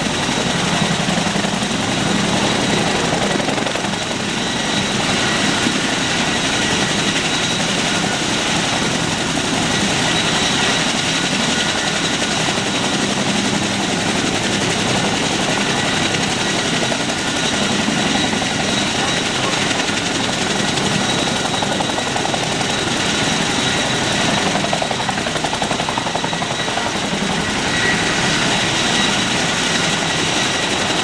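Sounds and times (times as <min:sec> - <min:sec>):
helicopter engine and rotor: 0:00.0 - 0:31.0.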